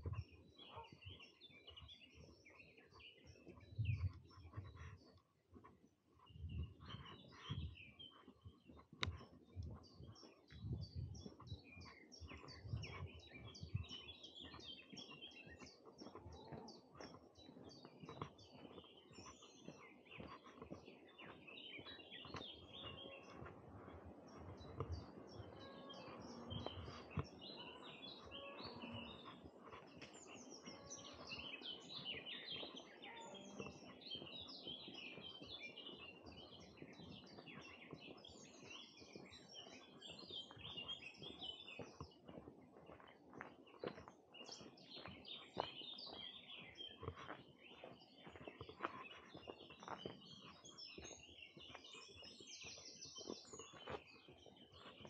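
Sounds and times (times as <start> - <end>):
songbirds chirping: 0.0 - 55.0
soft thuds of footsteps: 3.4 - 32.8, 33.6 - 55.0.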